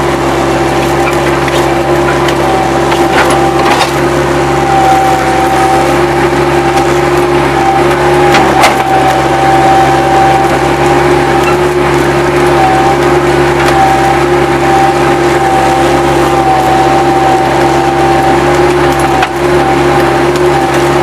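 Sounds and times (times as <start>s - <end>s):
diesel engine running: 0.0s - 21.0s
steady whine: 0.0s - 21.0s.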